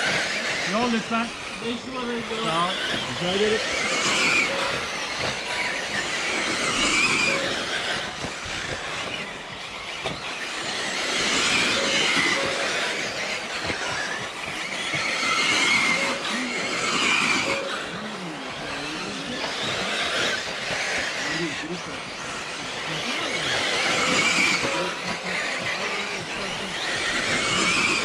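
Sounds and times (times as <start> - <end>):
rc car motor whine: 0.0 - 28.0.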